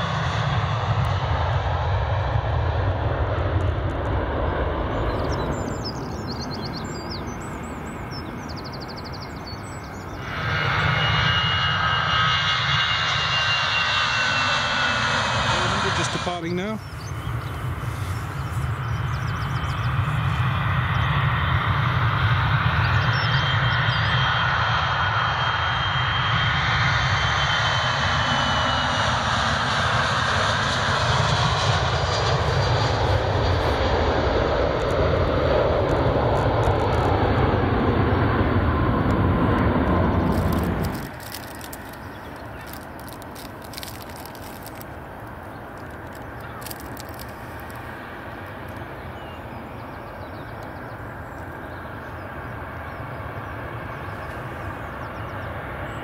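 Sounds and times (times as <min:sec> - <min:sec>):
airliner engines rushing and whining: 0:00.0 - 0:56.0.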